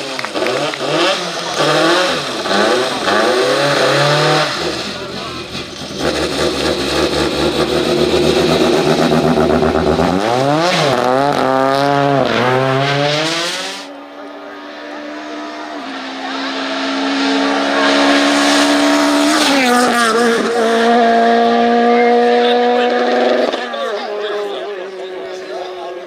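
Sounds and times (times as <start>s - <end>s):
rally car approaching: 0.0s - 26.0s
rally car engine revving: 0.0s - 26.0s.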